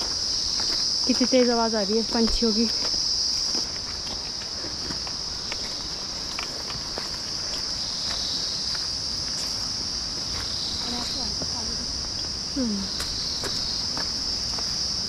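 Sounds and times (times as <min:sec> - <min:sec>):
footsteps on dirt trail: 0:00.0 - 0:15.0
insect chorus drone: 0:00.0 - 0:15.0.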